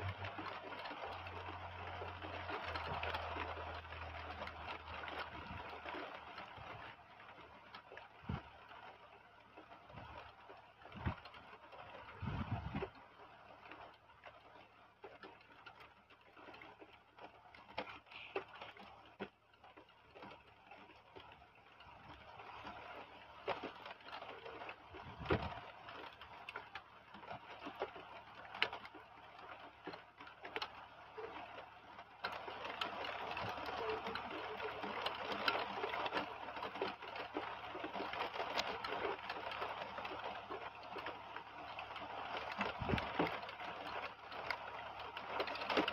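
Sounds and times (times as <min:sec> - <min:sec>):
heavy rain on branches: 0:00.0 - 0:45.9.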